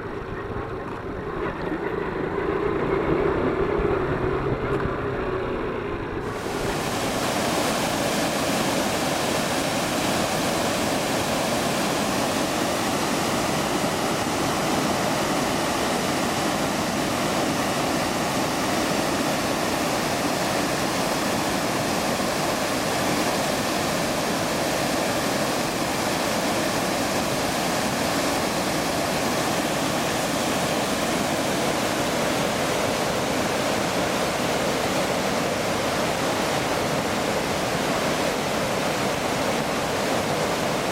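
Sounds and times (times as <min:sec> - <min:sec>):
water roaring over spillway: 0:00.0 - 0:40.9.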